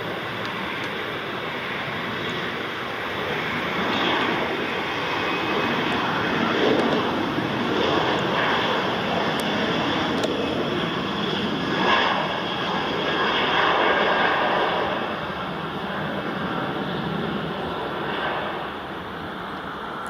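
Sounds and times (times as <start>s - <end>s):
airliner engines rushing: 0.0s - 20.0s.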